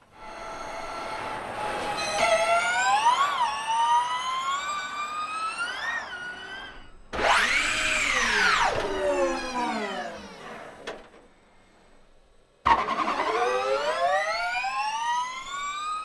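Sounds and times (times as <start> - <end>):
electric race car motor whining: 0.1 - 11.2, 12.7 - 16.0.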